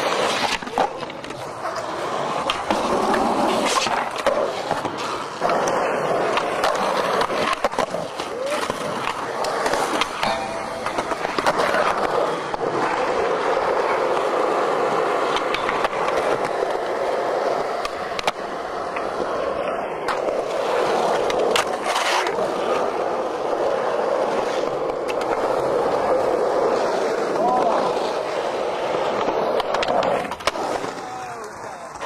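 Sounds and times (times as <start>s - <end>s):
skateboard clacks: 0.0s - 32.0s
skateboard wheels rolling on concrete: 0.0s - 32.0s.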